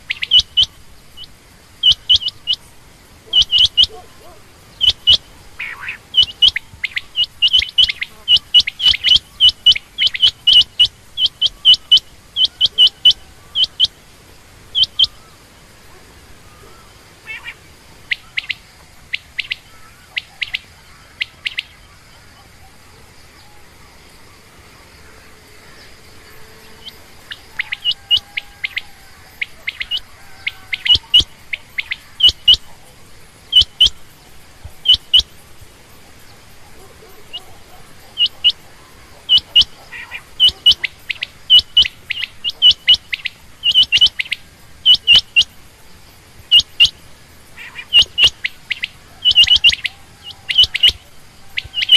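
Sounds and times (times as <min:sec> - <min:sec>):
quail calling: 0:00.0 - 0:23.7, 0:25.6 - 0:45.6, 0:46.5 - 0:51.9.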